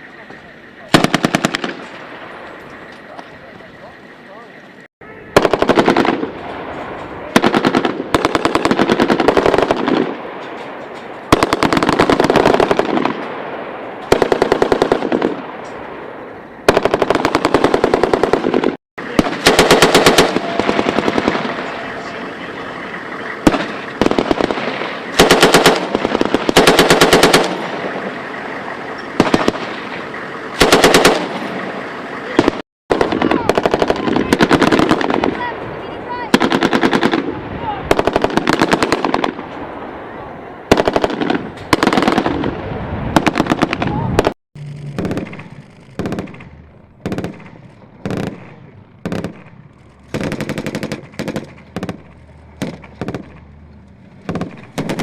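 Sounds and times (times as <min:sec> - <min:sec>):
automatic weapons firing: 0:00.9 - 0:02.4, 0:05.4 - 0:10.6, 0:11.3 - 0:13.4, 0:14.0 - 0:15.7, 0:16.6 - 0:39.5, 0:40.7 - 0:42.5, 0:43.2 - 0:53.6, 0:54.2 - 0:55.0.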